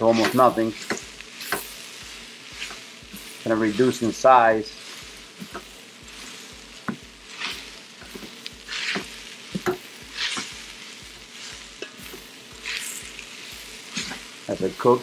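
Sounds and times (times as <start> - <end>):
spatula stirring and scraping: 0.0 - 14.5
vegetables and rice sizzling: 0.0 - 15.0.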